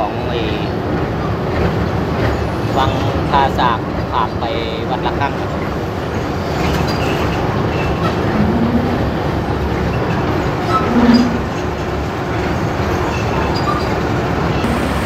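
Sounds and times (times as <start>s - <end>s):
ferry engine running: 0.0s - 15.0s.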